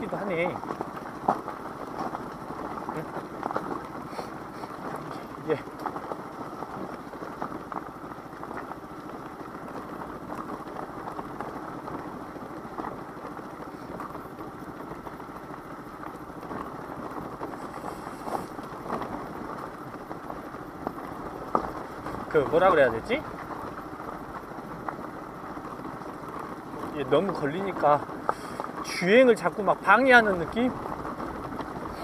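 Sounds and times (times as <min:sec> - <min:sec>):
scooter engine running at low revs: 0:00.0 - 0:32.0.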